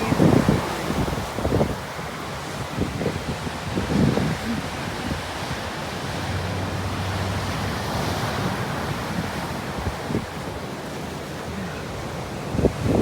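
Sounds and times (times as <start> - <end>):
ocean surf washing onto beach: 0.0 - 13.0
wind gusting against microphone: 0.0 - 13.0.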